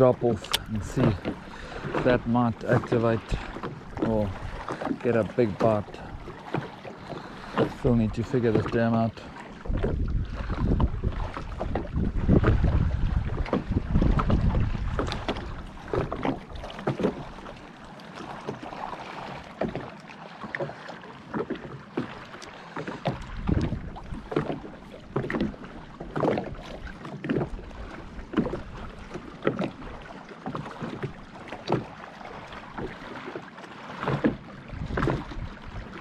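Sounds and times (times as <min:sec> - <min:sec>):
waves slapping boat hull: 0:00.0 - 0:36.0.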